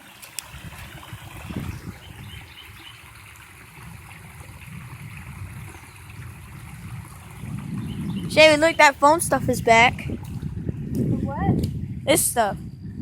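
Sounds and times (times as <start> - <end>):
floodwater running: 0.0 - 12.6
low rumble on microphone: 0.5 - 13.0.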